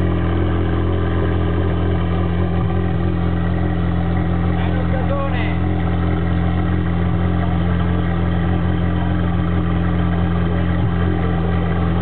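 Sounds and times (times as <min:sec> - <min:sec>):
race car engine idling: 0:00.0 - 0:12.0.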